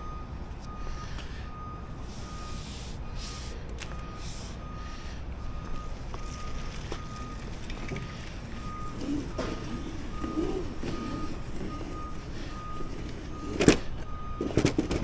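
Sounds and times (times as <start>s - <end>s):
backup alarm beeping: 0.0s - 15.0s.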